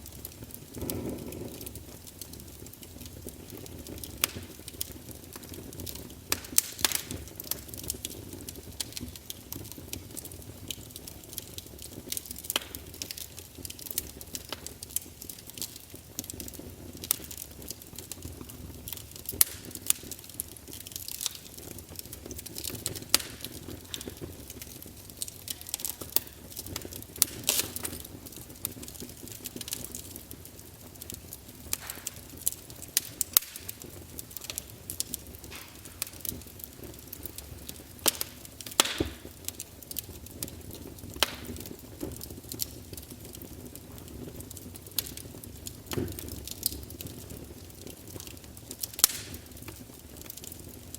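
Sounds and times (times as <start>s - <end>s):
logs crackling and popping: 0.0s - 50.9s
low rush of flame: 0.0s - 50.9s.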